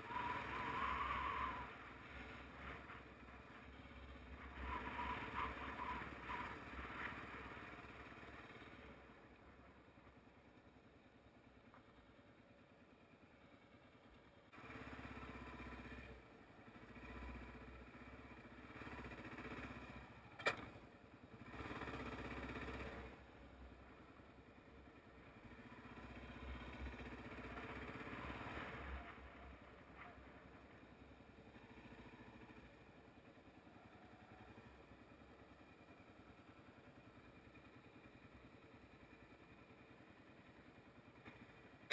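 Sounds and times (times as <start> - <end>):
motorcycle engine at low revs: 0.0 - 41.9.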